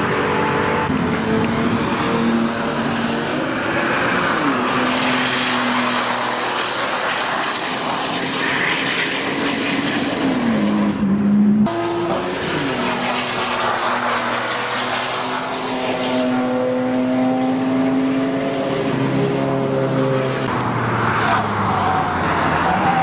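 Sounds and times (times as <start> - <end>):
loud sports car engine: 0.0 - 23.0.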